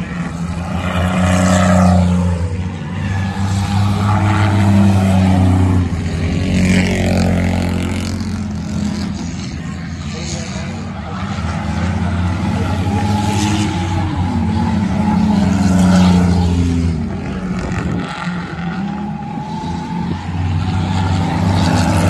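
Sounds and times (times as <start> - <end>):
race car engines running hard: 0.0 - 22.0.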